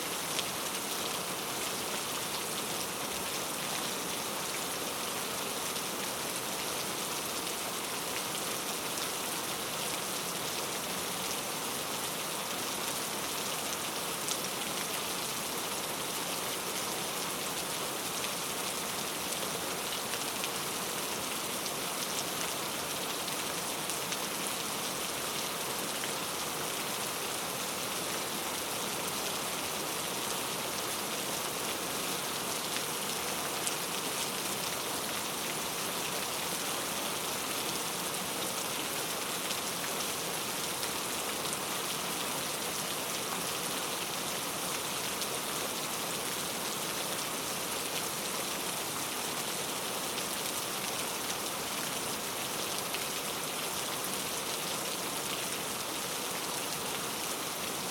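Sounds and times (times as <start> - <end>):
rain falling on foliage: 0.0 - 57.9.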